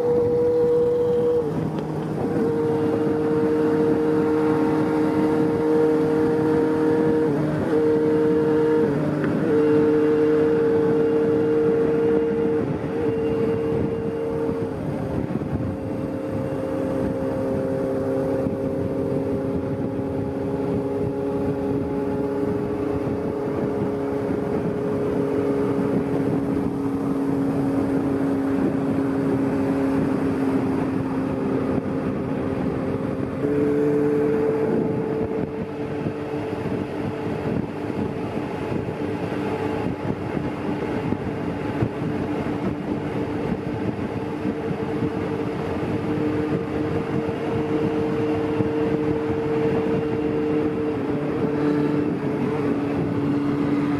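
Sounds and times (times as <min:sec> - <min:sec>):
motorcycle engine cruising: 0:00.0 - 0:53.9
road noise: 0:00.0 - 0:53.9.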